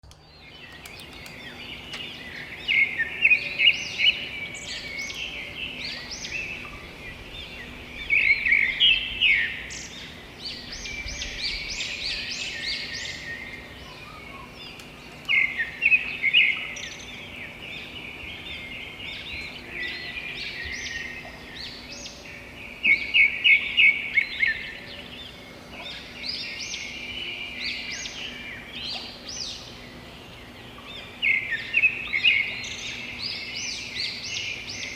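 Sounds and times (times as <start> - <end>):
birds singing and chirping: 0.0 - 34.9.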